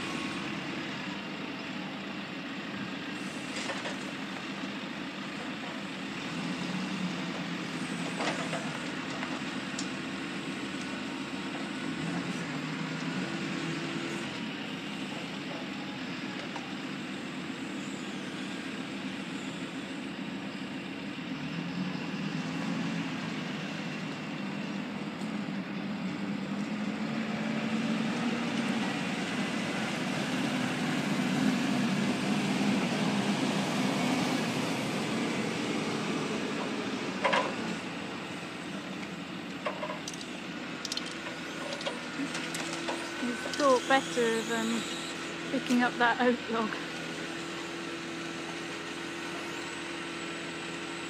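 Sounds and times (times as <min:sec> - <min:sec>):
diesel engine working under load: 0:00.0 - 0:51.0.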